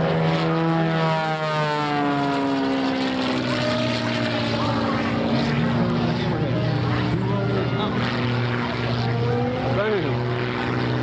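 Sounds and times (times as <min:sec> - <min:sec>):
propeller airplane engine drone: 0:00.0 - 0:11.0.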